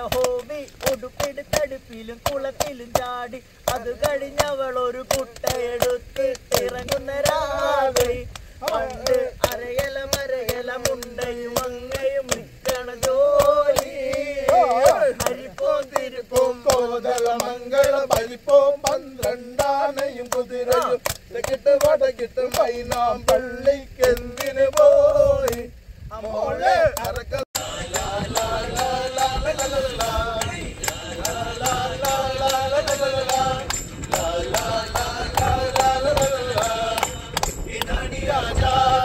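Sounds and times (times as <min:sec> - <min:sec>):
fast hand clapping: 0:00.0 - 0:39.0
men singing together: 0:00.0 - 0:39.0.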